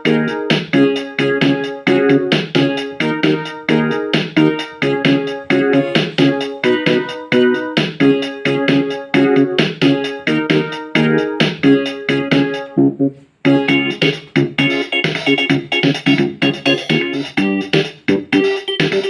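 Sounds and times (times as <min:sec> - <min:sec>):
synthesizer keyboard playing chords: 0:00.0 - 0:19.0.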